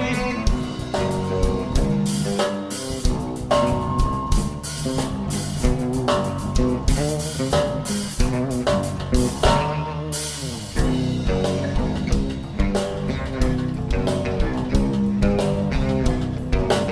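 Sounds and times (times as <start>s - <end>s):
instrumental music with drums and guitar: 0.0s - 16.9s.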